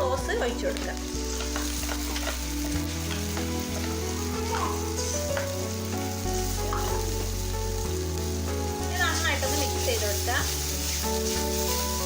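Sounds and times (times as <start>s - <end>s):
onions sizzling in hot oil: 0.0s - 12.0s
sauce pouring into pan: 0.0s - 12.0s
spatula clicking and scraping: 0.8s - 8.0s, 9.4s - 12.0s.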